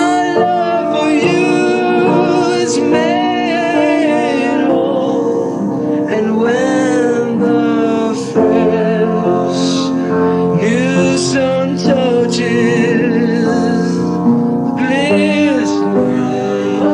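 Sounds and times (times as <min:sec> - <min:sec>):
worship song music: 0:00.0 - 0:16.9.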